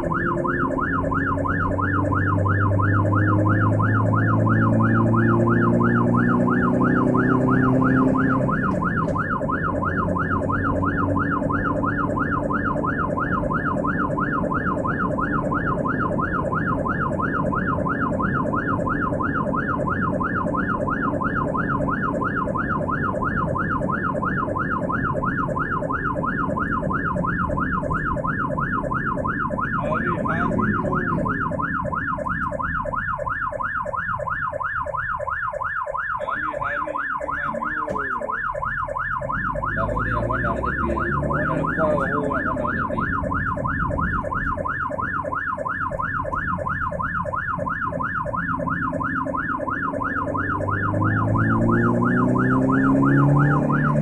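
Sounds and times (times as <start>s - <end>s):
ambulance siren yelping: 0.0s - 54.0s
engine and road noise: 0.0s - 54.0s.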